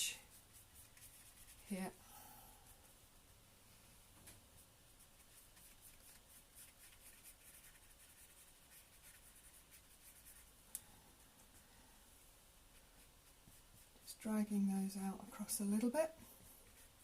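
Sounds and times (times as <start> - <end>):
paintbrush strokes on paper: 0.0 - 17.0.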